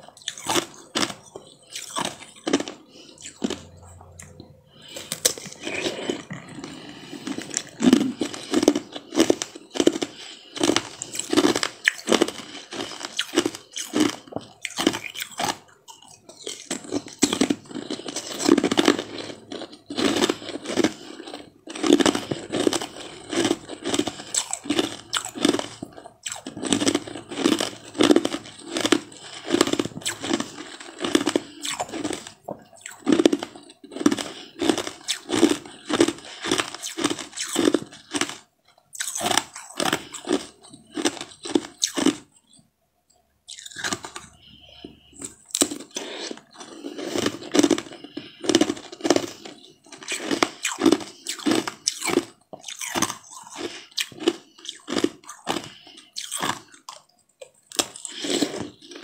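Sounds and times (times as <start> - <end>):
crunching frozen ice treat: 0.0 - 42.6, 43.5 - 59.0.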